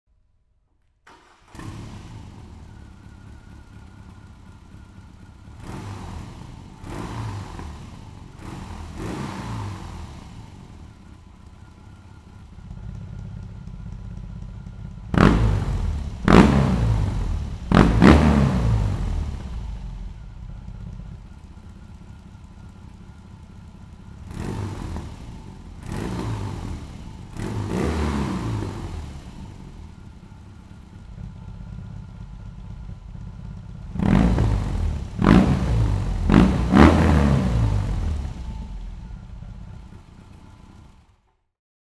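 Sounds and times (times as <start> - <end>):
motorcycle throttle blips: 1.0 - 41.3
motorcycle engine idling: 1.1 - 41.4.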